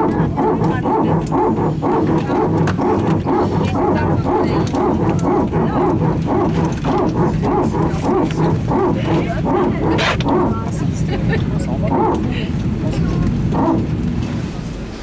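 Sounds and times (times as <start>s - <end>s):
hydraulic pump barking: 0.0s - 14.4s.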